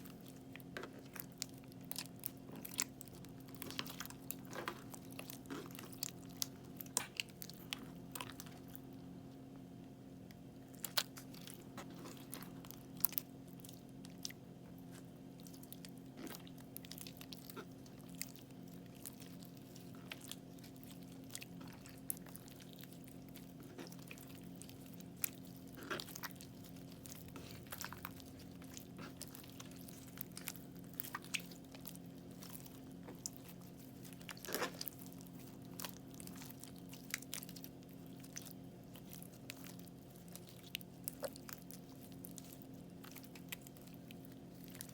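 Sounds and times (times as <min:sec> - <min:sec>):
crunchy slime crackling: 0:00.0 - 0:09.0, 0:10.3 - 0:44.9
faint steady hum: 0:00.0 - 0:44.9.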